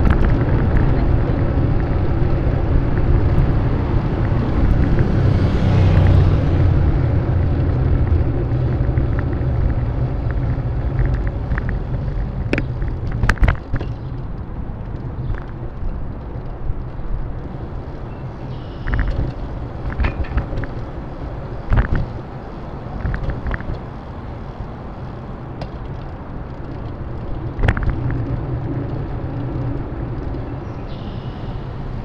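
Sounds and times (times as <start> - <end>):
bicycle rumbling along street: 0.0 - 32.0
bike knocking and rattling over bumps: 0.0 - 32.0.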